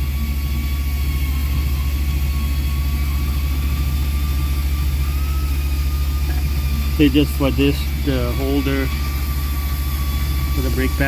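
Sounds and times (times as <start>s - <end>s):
faint thin whine: 0.0s - 11.0s
low mechanical hum: 0.0s - 11.0s.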